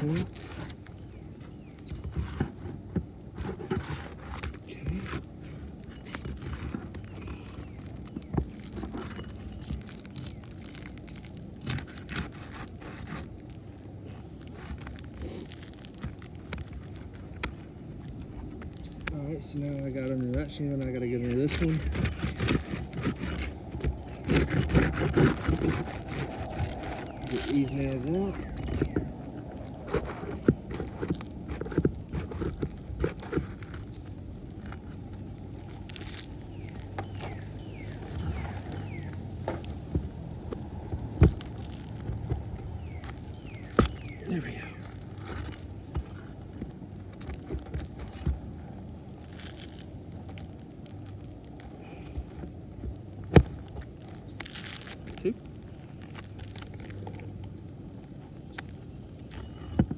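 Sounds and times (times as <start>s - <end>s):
clicks and scrapes: 0.0s - 59.9s
shingle tool scraping and rustling: 0.0s - 59.9s.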